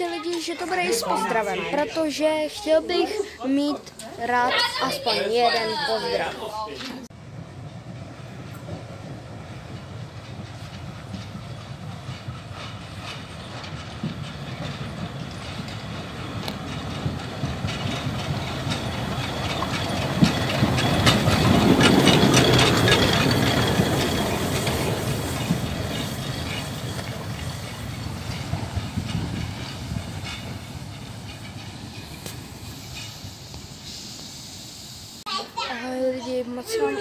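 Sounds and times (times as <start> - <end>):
wheels clattering over rail joints: 0.0 - 33.8
steam locomotive rumbling past: 0.0 - 37.0.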